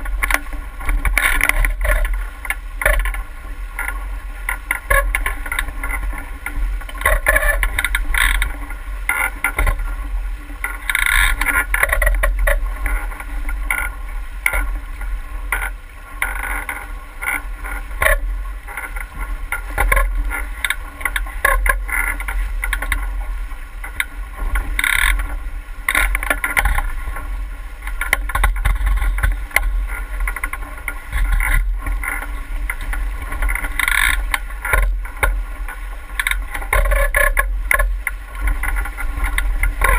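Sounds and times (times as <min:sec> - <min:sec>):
steady low rumble: 0:00.0 - 0:39.9
water splashing against boat hull: 0:00.0 - 0:39.9.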